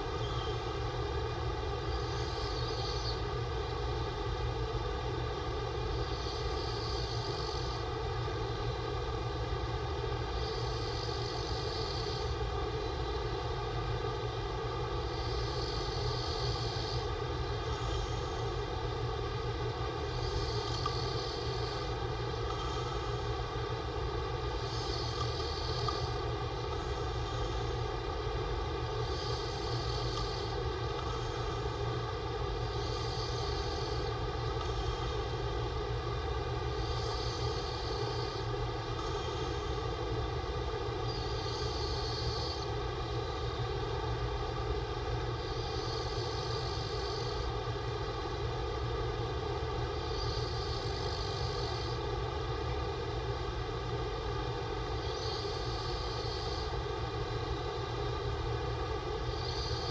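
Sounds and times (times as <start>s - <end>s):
constant mechanical drone: 0.0s - 59.9s.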